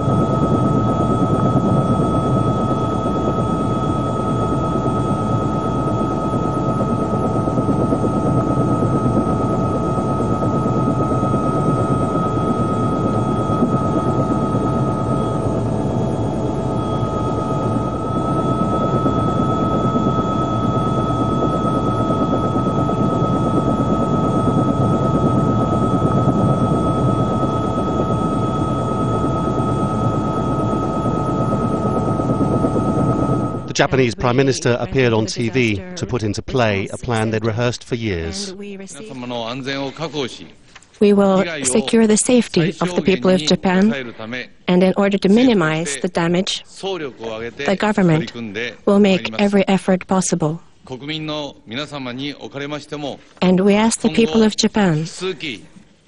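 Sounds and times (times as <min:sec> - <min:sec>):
helicopter engine and rotor drone: 0:00.0 - 0:40.2, 0:41.0 - 0:50.3, 0:53.3 - 0:55.6.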